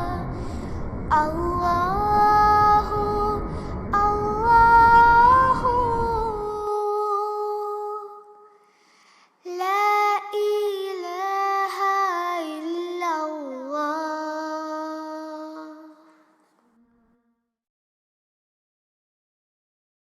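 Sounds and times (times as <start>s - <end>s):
high voice singing: 0.0s - 8.5s, 9.5s - 17.2s.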